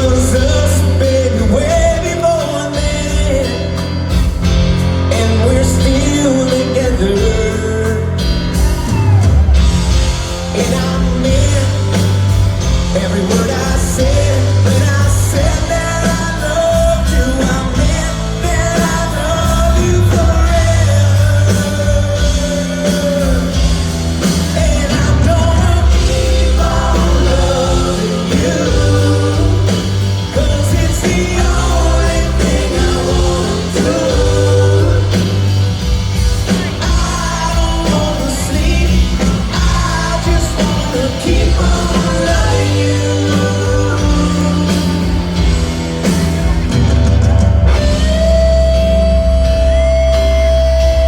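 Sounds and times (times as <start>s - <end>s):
person singing: 0.0s - 47.0s, 47.7s - 51.0s
rock band playing a power ballad: 0.0s - 51.0s.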